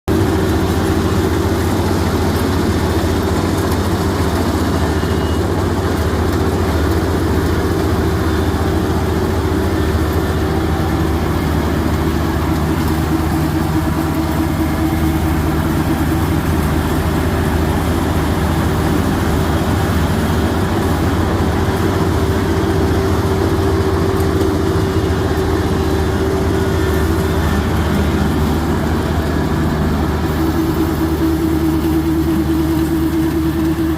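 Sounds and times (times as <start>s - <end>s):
combine harvester engine humming: 0.1s - 33.9s.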